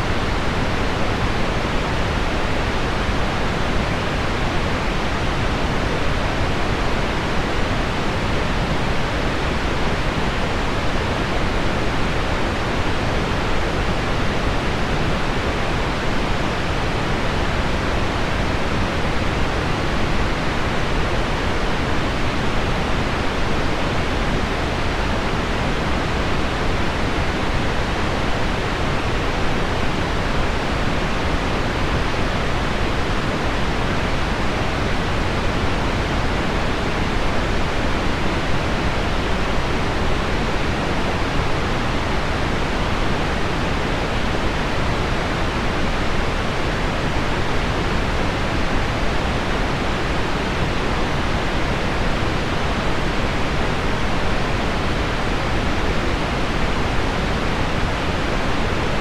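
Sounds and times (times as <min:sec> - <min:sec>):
pink noise: 0:00.0 - 0:59.0.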